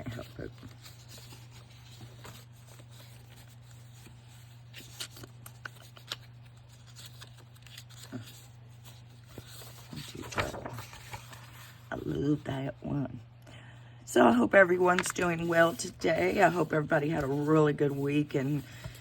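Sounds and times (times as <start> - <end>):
paper rustling and folding: 0.0 - 12.5, 14.4 - 19.0
steady low hum: 0.0 - 19.0.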